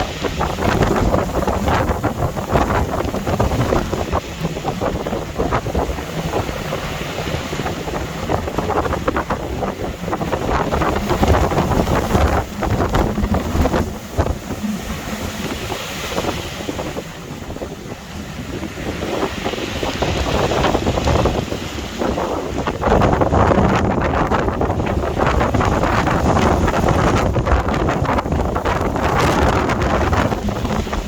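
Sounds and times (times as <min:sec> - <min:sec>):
rough sea rushing: 0:00.0 - 0:31.0
wind buffeting microphone: 0:00.0 - 0:31.0.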